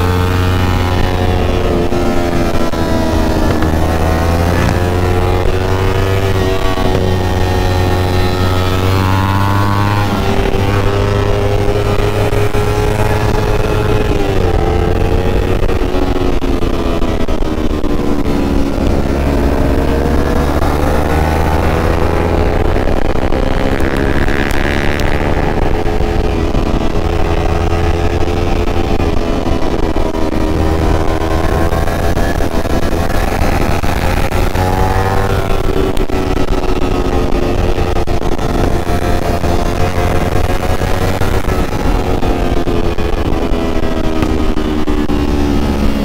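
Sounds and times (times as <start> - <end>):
motorcycle engine at high revs: 0.0 - 46.0
wind rumble on microphone: 0.0 - 46.0.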